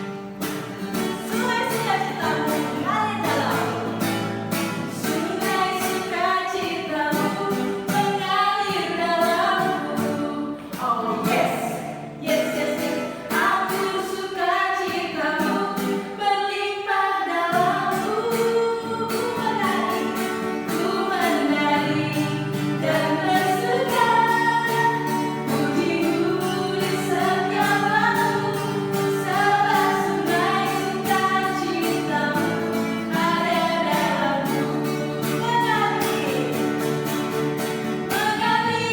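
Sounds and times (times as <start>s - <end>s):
voices singing together: 0.8s - 38.9s.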